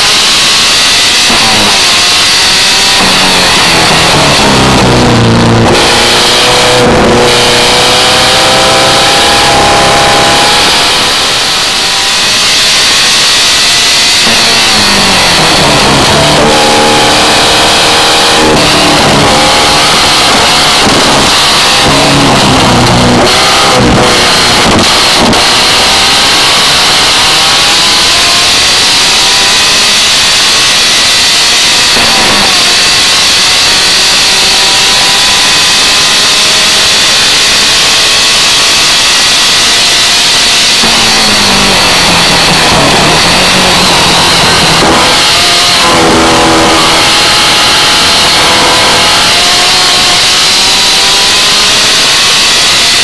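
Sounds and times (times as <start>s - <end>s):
sports car engine revving: 0.0s - 53.0s.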